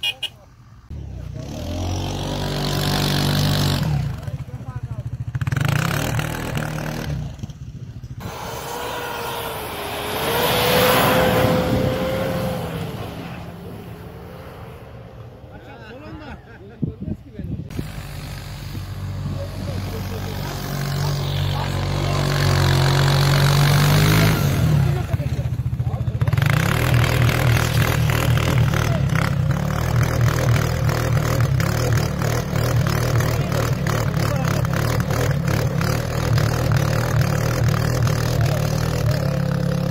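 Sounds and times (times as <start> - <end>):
utv engine running in snow: 0.6 - 15.4, 17.4 - 39.9.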